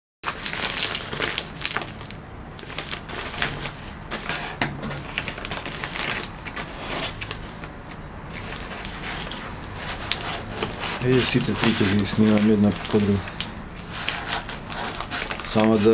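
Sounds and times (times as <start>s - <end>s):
plastic bag crinkling: 0.2s - 15.9s.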